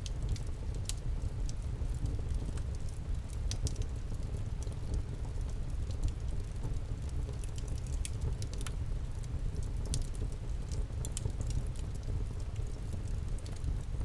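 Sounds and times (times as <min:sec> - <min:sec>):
campfire crackles and pops: 0:00.0 - 0:14.0
low rumble of flames: 0:00.0 - 0:14.0.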